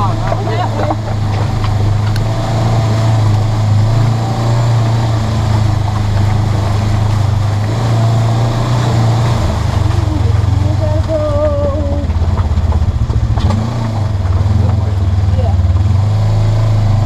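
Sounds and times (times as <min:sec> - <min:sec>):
engine running inside cab: 0:00.0 - 0:17.0.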